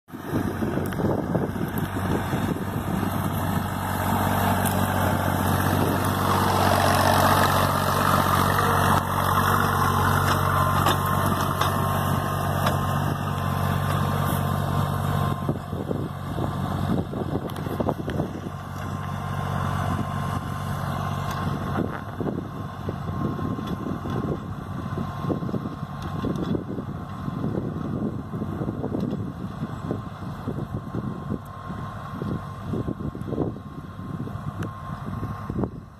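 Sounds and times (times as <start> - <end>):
tractor diesel engine running: 0.1 - 35.9.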